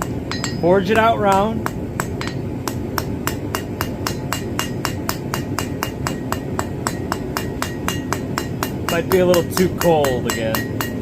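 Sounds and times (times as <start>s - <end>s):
hammer striking iron on anvil: 0.0s - 11.0s.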